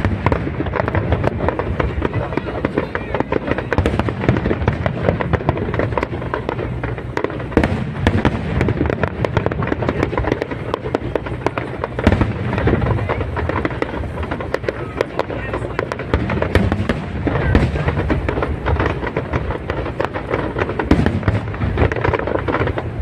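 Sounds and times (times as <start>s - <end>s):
fireworks crackling and banging: 0.0s - 23.0s.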